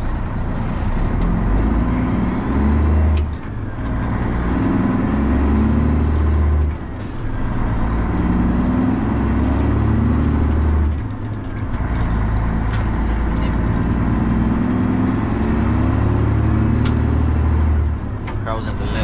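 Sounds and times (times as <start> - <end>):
diesel truck engine accelerating: 0.0 - 19.0.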